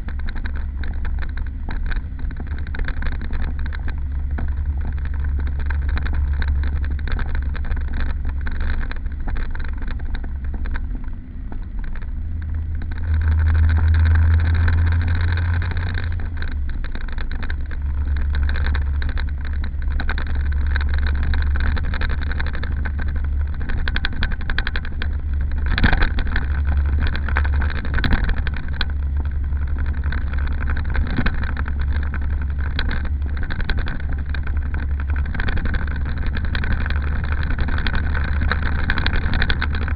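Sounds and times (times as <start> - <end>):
small car engine running: 0.0 - 39.9.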